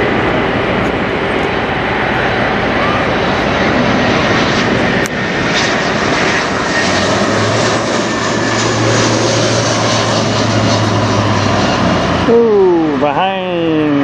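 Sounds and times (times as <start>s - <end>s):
jet airliner passing overhead: 0.0s - 14.0s
low steady drone: 0.0s - 14.0s.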